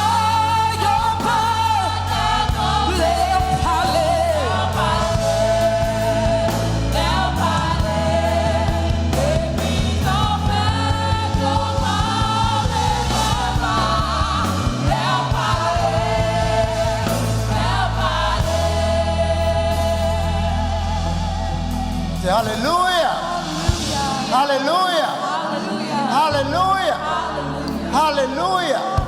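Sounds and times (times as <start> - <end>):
steady bass: 0.0 - 24.7
backing vocals: 0.0 - 29.0
keyboard: 0.0 - 29.0.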